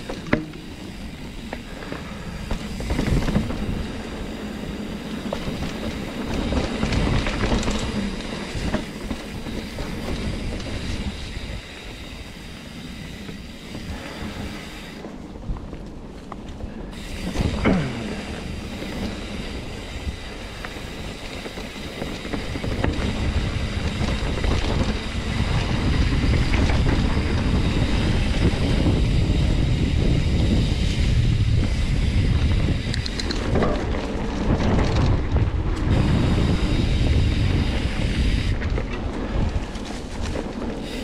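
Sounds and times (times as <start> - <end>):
bike frame rattle: 0.0 - 15.2, 16.9 - 41.0
bike tyre rumble on dirt: 0.0 - 41.0
wind buffeting microphone: 0.0 - 41.0.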